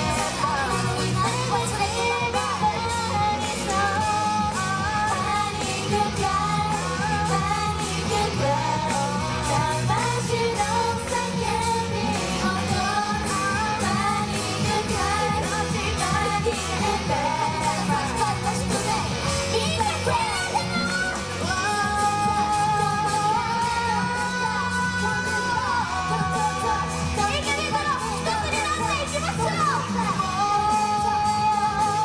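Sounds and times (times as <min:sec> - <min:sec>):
female group singing pop song: 0:00.0 - 0:32.0
music with beat and bass: 0:00.0 - 0:32.0.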